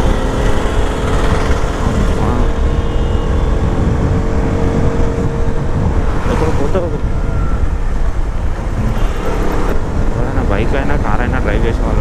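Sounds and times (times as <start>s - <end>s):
motorcycle engine at speed: 0.0s - 12.0s
wind and road noise: 0.0s - 12.0s.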